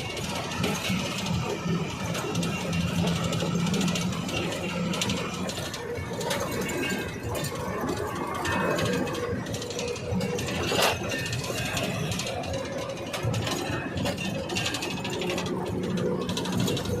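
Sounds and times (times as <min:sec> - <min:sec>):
mechanical clicking and rattling: 0:00.0 - 0:17.0.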